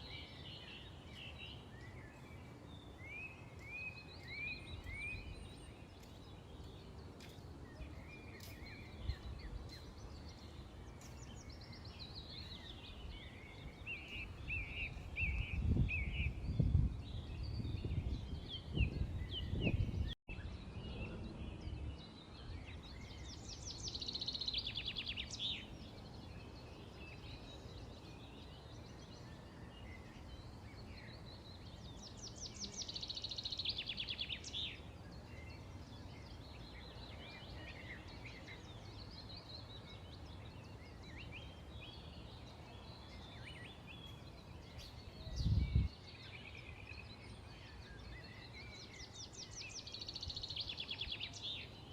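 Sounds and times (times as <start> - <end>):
bird song with rapid trills: 0.0 - 51.9
small birds chirping: 0.0 - 51.9.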